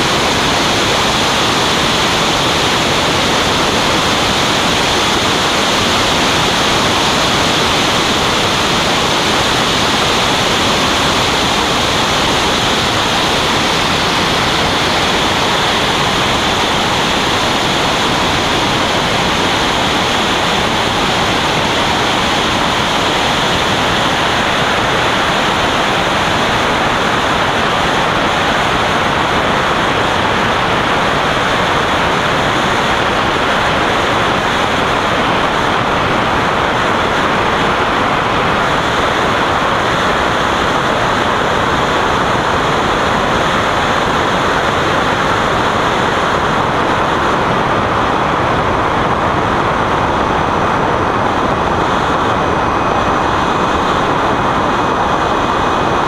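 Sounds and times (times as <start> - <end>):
jet engine: 0.0 - 56.0
rushing airflow: 0.0 - 56.0.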